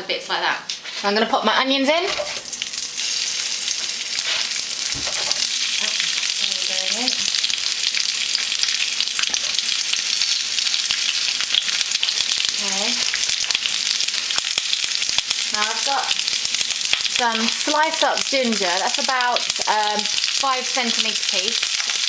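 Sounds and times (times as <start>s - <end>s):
onions sizzling in hot oil: 2.1s - 22.0s.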